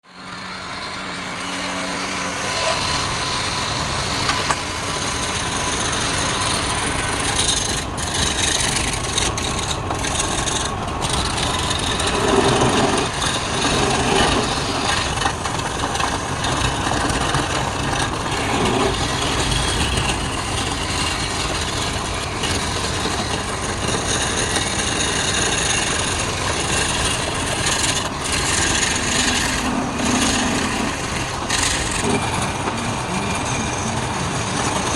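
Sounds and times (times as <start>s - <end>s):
wood lathe running: 0.0s - 34.9s
tool scraping spinning wood: 0.2s - 34.9s.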